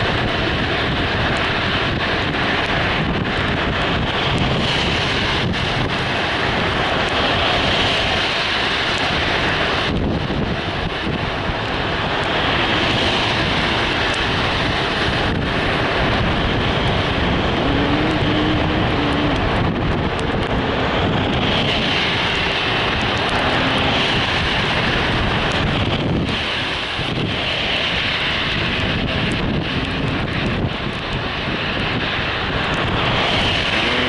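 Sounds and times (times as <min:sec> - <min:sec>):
car wind and road noise: 0:00.0 - 0:34.0
wind buffeting microphone: 0:00.0 - 0:34.0.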